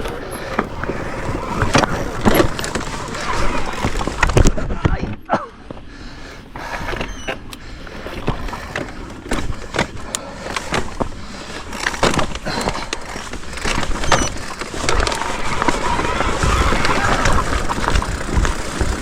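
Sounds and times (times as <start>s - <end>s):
bike tyres crunching on stone: 0.0s - 4.6s, 8.2s - 19.0s
bike knocks and rattles: 0.0s - 5.2s, 6.7s - 19.0s.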